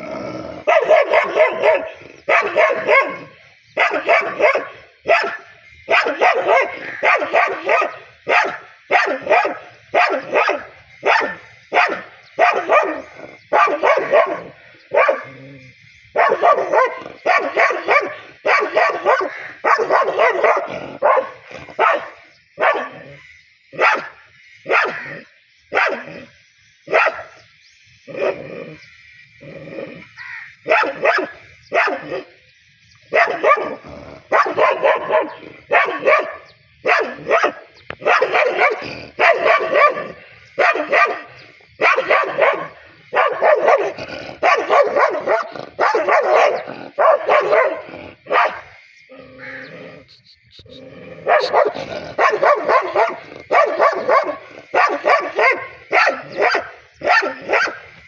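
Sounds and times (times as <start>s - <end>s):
dog barking aggressively: 0.0s - 15.4s, 16.1s - 23.2s, 23.8s - 26.3s, 26.9s - 27.3s, 30.6s - 32.3s, 33.1s - 48.7s, 49.4s - 58.0s.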